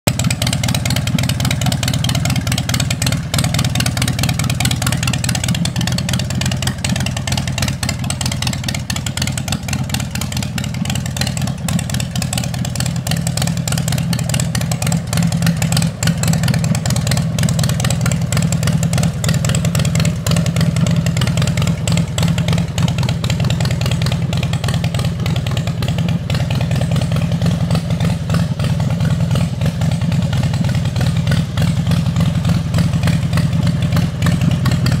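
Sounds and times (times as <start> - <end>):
motorcycle engine idling: 0.1 - 35.0.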